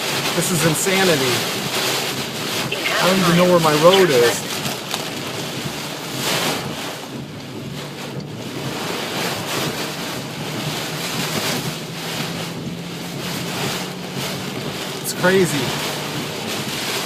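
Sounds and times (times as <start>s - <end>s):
rain and wind on vehicle: 0.0s - 17.0s
vehicle low hum: 0.0s - 17.0s.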